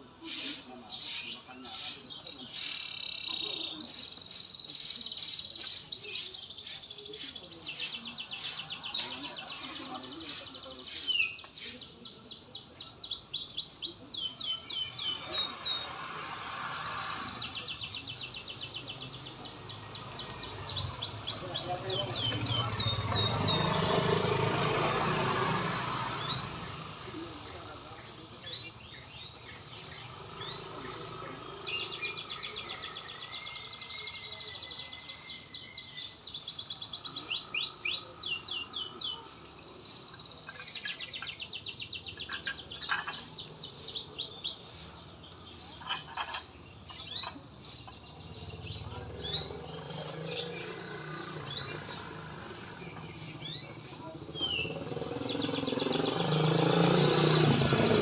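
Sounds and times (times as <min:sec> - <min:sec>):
road traffic engine noise: 0:00.0 - 0:58.0
songbird singing trills and whistles: 0:00.0 - 0:58.0.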